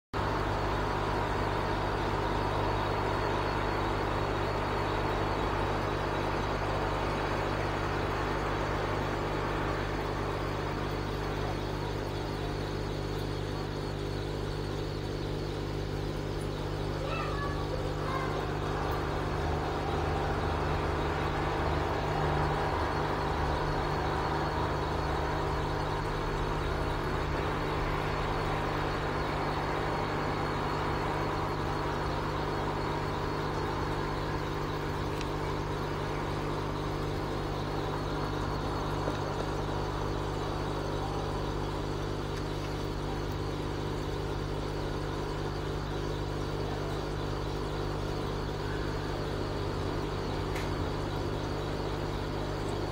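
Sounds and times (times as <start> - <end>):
aquarium equipment humming: 0.2 - 52.9.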